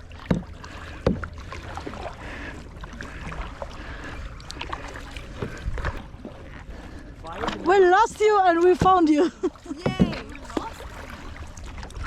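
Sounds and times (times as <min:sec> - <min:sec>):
paddle splashing water: 0:00.0 - 0:12.0.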